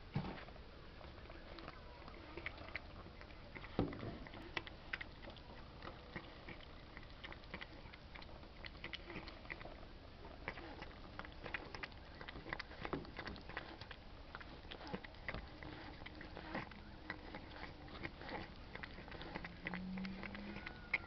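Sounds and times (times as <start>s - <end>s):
cat lapping milk: 0.3s - 21.0s.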